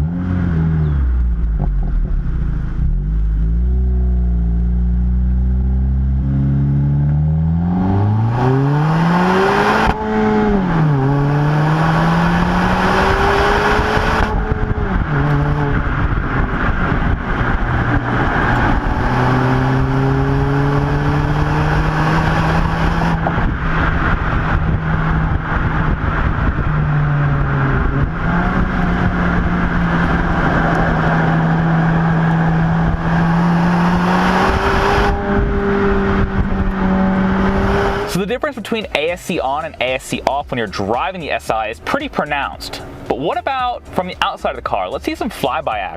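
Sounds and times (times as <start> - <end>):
car engine revving: 0.0 - 44.7
road noise: 0.0 - 45.9.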